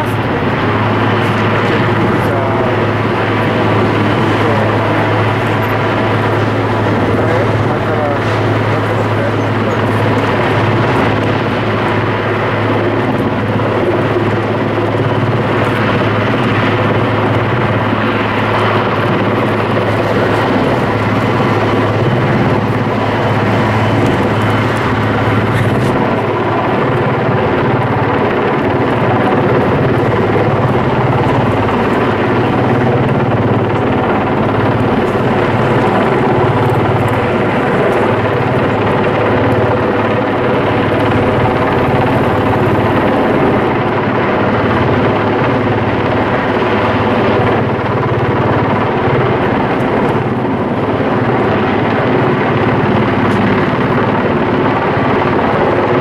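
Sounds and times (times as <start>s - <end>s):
helicopter rotor and turbine drone: 0.0s - 56.0s.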